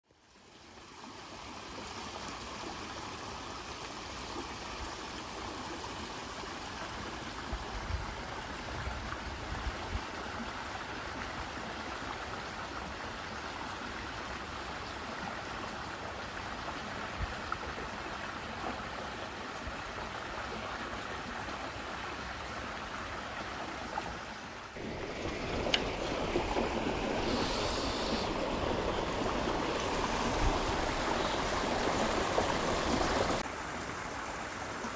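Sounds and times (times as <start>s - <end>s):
flowing water rushing: 0.2s - 34.9s.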